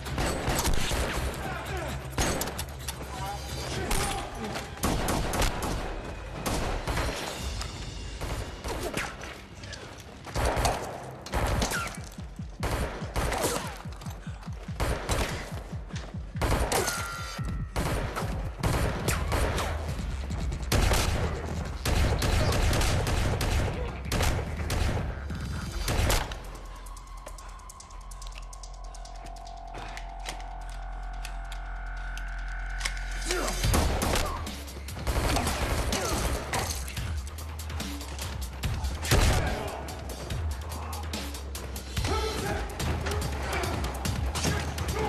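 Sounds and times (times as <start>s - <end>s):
gunshots in bursts: 0.0s - 26.8s, 33.3s - 45.0s.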